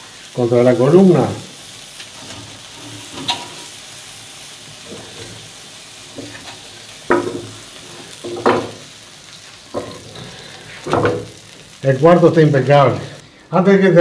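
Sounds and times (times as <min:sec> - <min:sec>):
meat sizzling on charcoal grill: 0:00.0 - 0:14.0.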